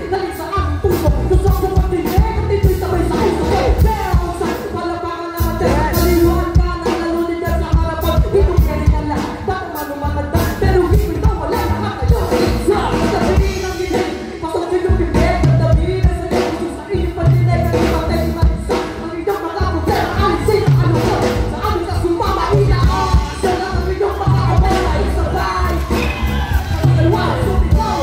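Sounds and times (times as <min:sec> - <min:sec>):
drum kit beating steadily: 0:00.0 - 0:28.0
live band playing: 0:00.0 - 0:28.0
people singing into microphones: 0:00.0 - 0:28.0.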